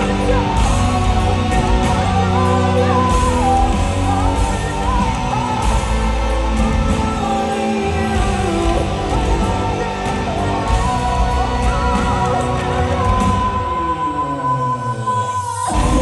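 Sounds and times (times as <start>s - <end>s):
electric guitar: 0.0s - 16.0s
person singing: 0.0s - 16.0s.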